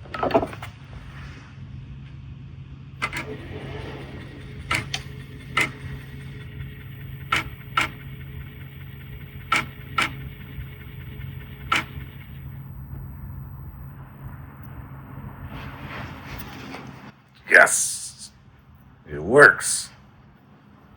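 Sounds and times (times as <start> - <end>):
steady low hum: 1.8 - 20.6.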